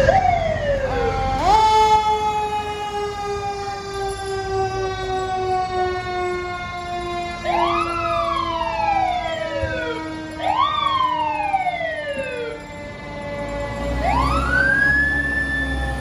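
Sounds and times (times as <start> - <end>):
siren wailing: 0.0 - 16.0
siren winding down: 0.0 - 16.0.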